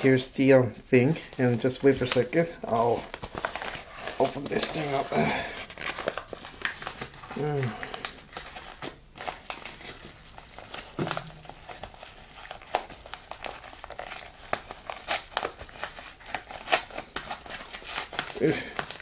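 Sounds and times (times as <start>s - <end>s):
parcel packaging crinkling: 1.2s - 19.0s.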